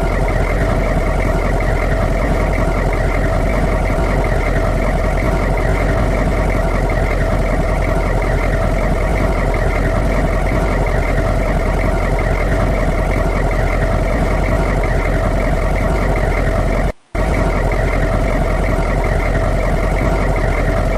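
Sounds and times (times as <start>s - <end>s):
diesel engine idling: 0.0s - 20.9s.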